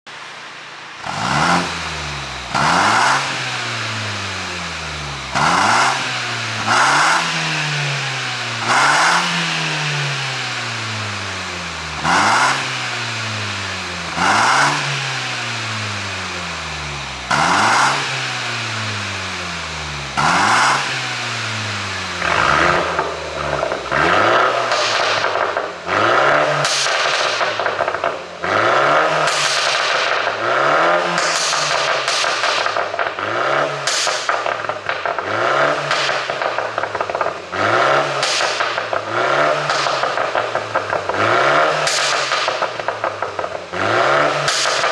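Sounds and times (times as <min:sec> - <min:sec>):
car engine revving in blips: 0:00.2 - 0:44.9
exhaust pops and crackles: 0:01.0 - 0:44.9.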